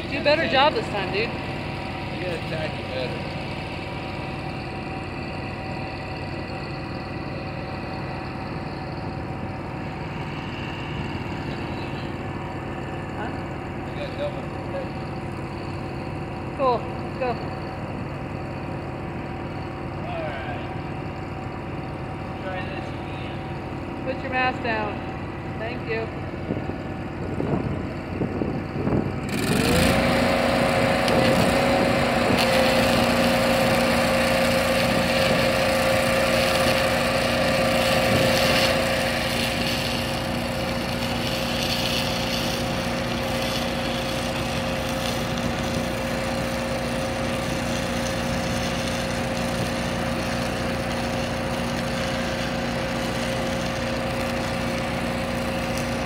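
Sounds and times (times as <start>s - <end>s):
welder engine running: 0.0s - 56.0s
welding arc crackling: 0.0s - 56.0s.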